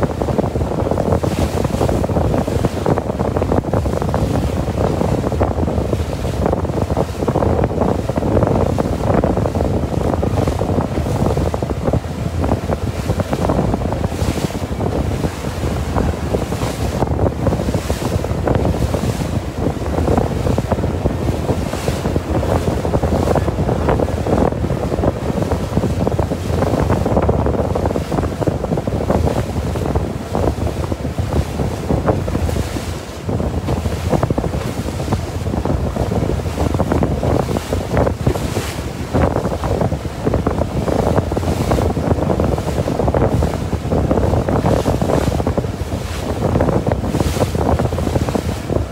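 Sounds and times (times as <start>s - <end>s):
boat wake splashing water: 0.0s - 48.9s
wind buffeting microphone: 0.0s - 48.9s.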